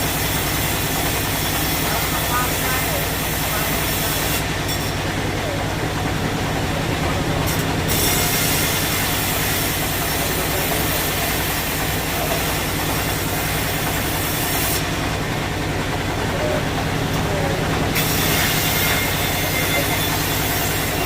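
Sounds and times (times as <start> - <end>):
saw blade cutting log: 0.0 - 5.6, 7.4 - 15.1, 17.4 - 21.0
sawmill motor hum: 0.0 - 21.0.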